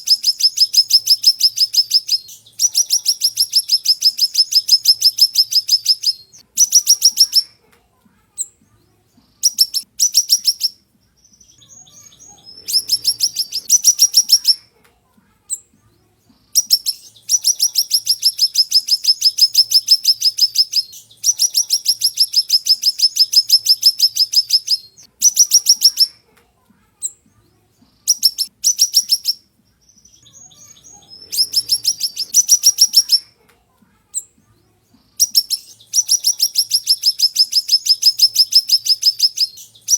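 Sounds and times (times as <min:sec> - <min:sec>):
songbird high-pitched trills: 0:00.0 - 0:07.6, 0:09.3 - 0:14.7, 0:15.5 - 0:26.2, 0:28.0 - 0:33.4, 0:34.1 - 0:39.9.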